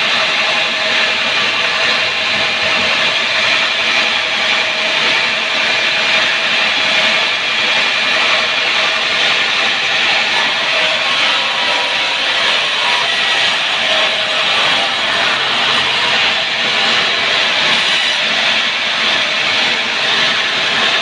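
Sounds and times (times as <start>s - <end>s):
sawmill saw cutting log: 0.0s - 21.0s.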